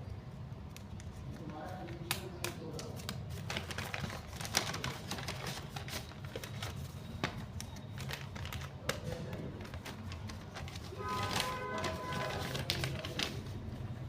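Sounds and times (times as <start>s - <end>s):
paper bag rustling and clicking: 1.4s - 13.8s.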